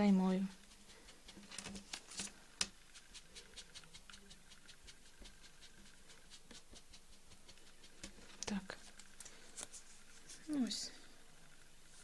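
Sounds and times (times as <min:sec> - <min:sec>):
pastel scratching on foam: 0:00.4 - 0:10.7.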